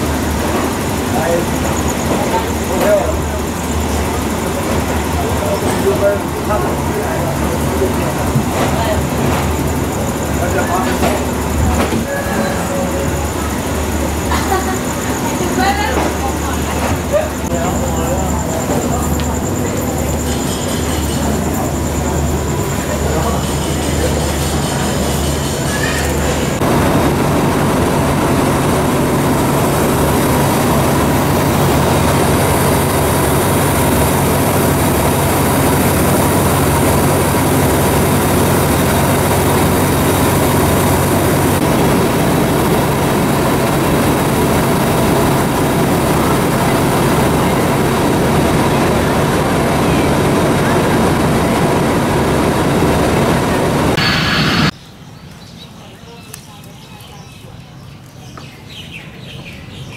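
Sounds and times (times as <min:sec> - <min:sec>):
locomotive engine idling: 0:00.0 - 0:54.7.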